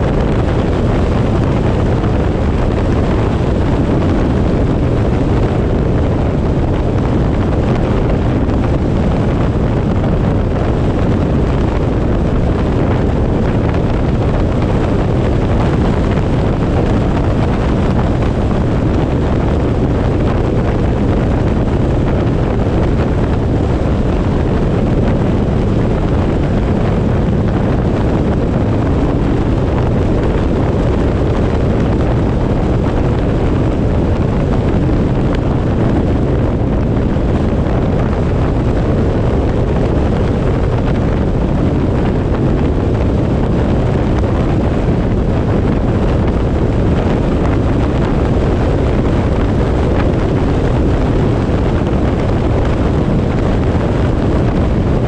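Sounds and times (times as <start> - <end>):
road and engine rumble: 0.0 - 55.0
wind buffeting microphone: 0.0 - 55.0.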